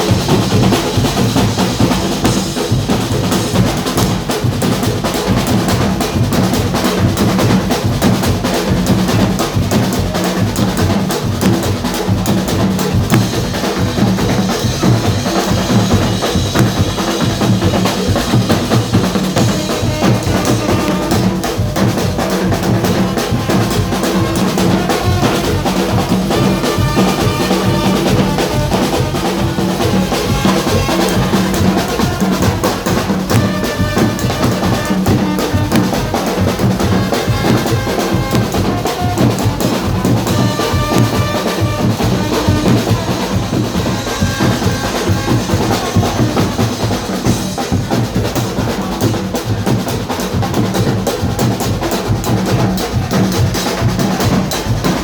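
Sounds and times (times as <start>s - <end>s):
bass drum and snare hits: 0.0s - 55.0s
carnival band music: 0.0s - 55.0s.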